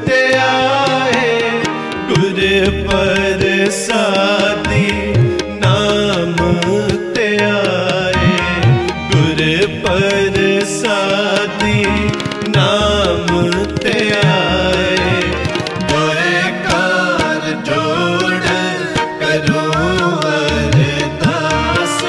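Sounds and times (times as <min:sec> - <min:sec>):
ornamented melody line: 0:00.0 - 0:22.0
tabla rhythm: 0:00.0 - 0:22.0
steady held tones: 0:00.4 - 0:22.0.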